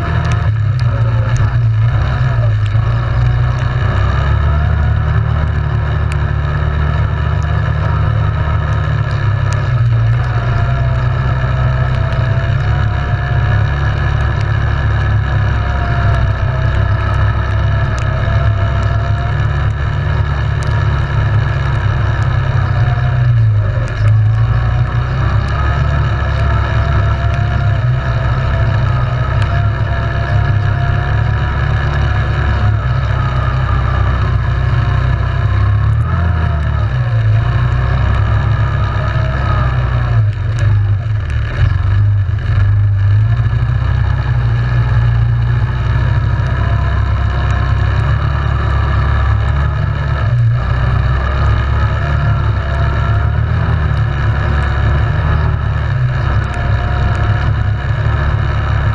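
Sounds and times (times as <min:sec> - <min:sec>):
atv engine revving: 0:00.0 - 0:58.9
heavy low rumble: 0:00.0 - 0:58.9.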